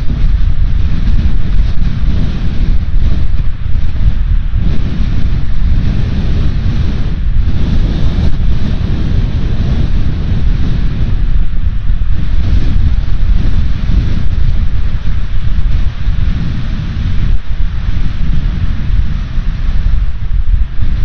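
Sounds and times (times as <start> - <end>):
ocean surf: 0.0 - 21.0
wind buffeting the microphone: 0.0 - 21.0.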